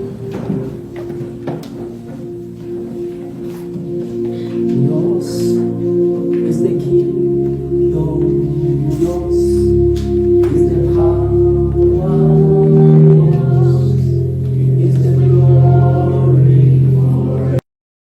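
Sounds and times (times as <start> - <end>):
worship music with bass: 0.0 - 17.6.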